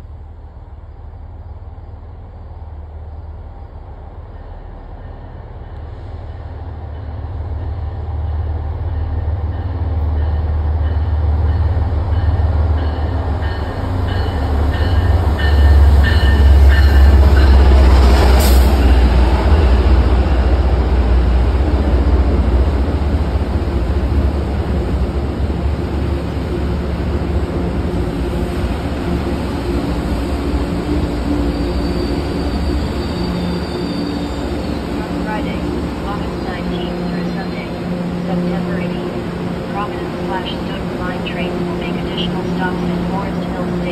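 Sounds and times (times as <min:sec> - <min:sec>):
diesel locomotive engine rumble: 0:00.0 - 0:43.9.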